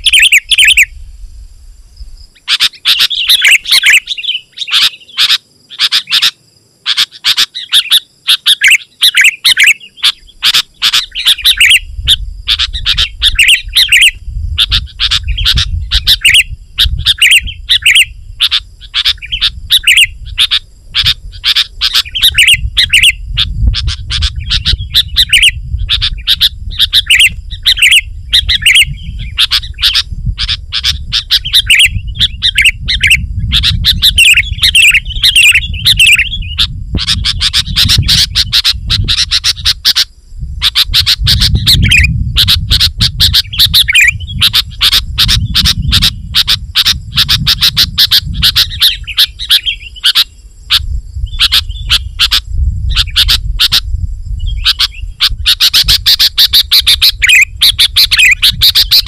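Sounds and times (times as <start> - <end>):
bird chirping rapidly: 0.0 - 1.0, 2.3 - 59.0.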